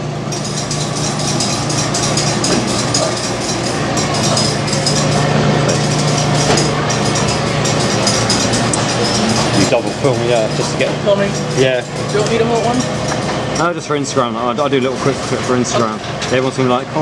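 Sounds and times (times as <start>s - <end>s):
washer drum spinning: 0.0s - 17.0s.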